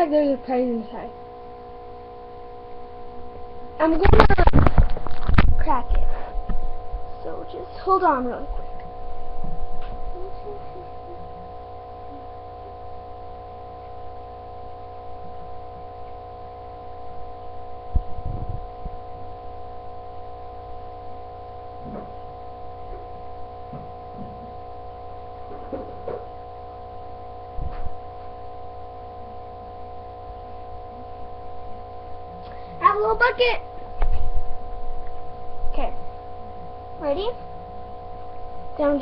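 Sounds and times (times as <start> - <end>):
steady hum of held tones: 0.0 - 39.0.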